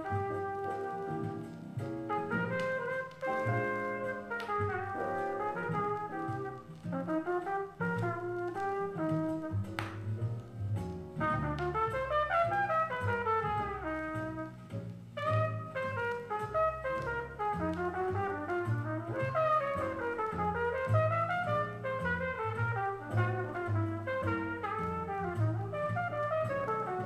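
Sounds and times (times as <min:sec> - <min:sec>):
trumpet line: 0:00.0 - 0:10.3, 0:11.2 - 0:27.0
walking bass line: 0:00.0 - 0:27.0.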